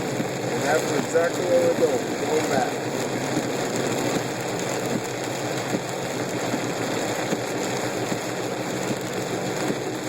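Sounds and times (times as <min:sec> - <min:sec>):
heavy rain on car: 0:00.0 - 0:10.0
rain drop ticks: 0:00.0 - 0:10.0.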